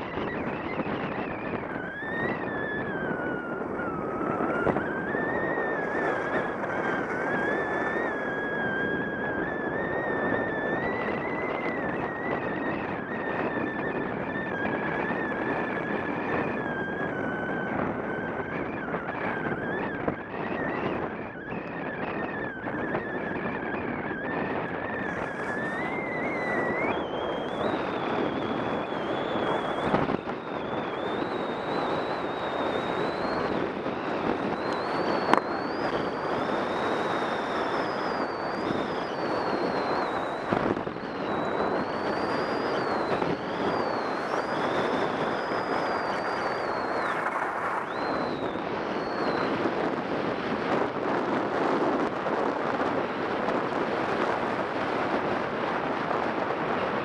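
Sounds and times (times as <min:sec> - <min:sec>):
thin wavering whistle: 0:00.0 - 0:50.2
wind rushing over microphone: 0:00.0 - 0:57.0.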